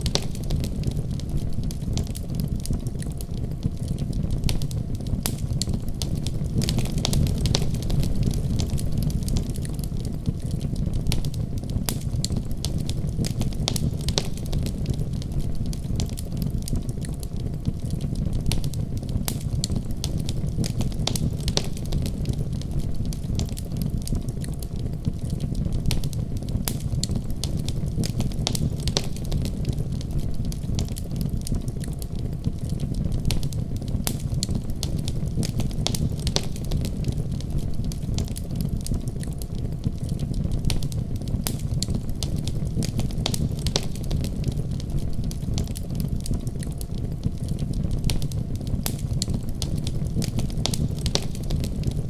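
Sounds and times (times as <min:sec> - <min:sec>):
fire pops and snaps: 0:00.0 - 0:52.0
low rumble of flames: 0:00.0 - 0:52.0
wood fire crackling: 0:00.0 - 0:52.0.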